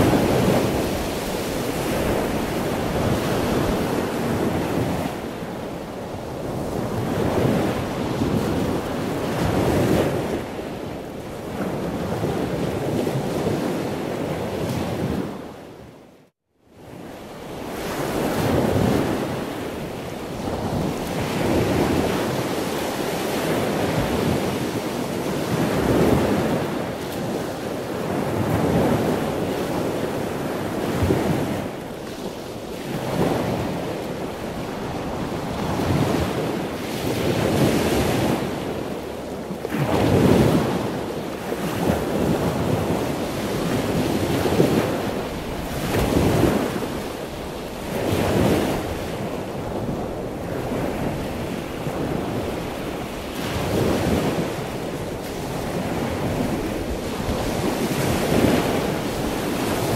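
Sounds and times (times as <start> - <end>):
sea waves washing in: 0.0 - 15.7, 16.9 - 59.9
wind: 0.0 - 59.9.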